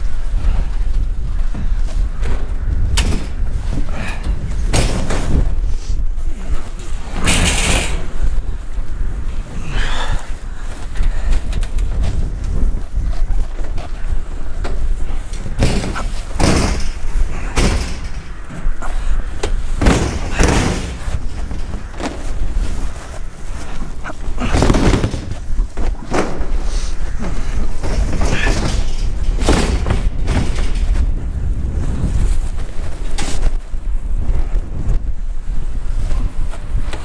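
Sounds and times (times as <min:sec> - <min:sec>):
wind on microphone: 0:00.0 - 0:37.0.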